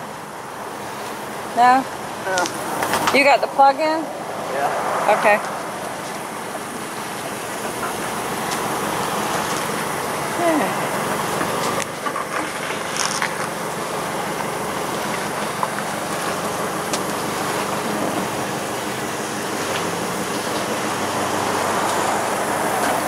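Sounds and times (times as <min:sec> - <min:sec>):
vehicle engine noise: 0:00.0 - 0:23.0.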